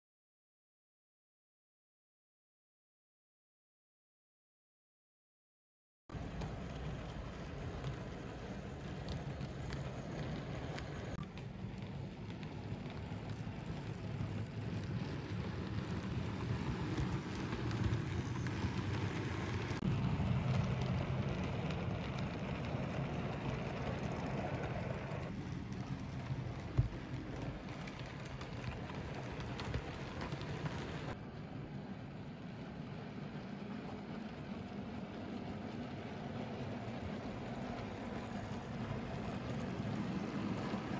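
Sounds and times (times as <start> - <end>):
model train wheels rumbling: 6.2 - 40.9.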